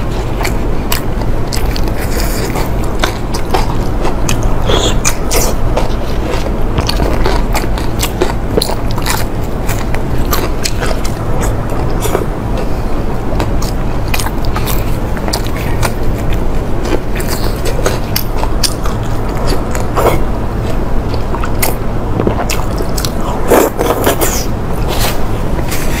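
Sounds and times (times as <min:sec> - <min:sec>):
steady low rumble: 0:00.0 - 0:26.0
wet chewing and biting: 0:00.0 - 0:26.0.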